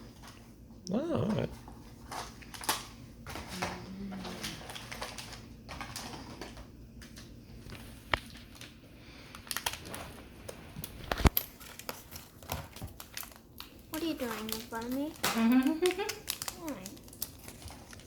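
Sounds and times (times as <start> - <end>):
packaging being handled: 1.5 - 18.0.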